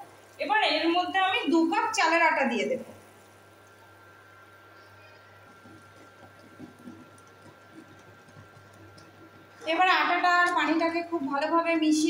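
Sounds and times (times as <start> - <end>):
boiling water bubbling: 0.0 - 12.0
faint high hum: 0.0 - 12.0.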